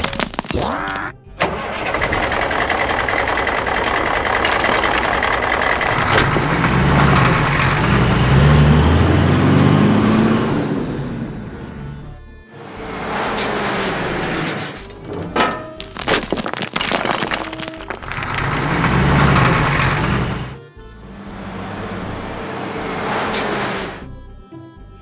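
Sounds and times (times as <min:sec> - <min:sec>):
dump truck engine running: 0:00.0 - 0:24.4.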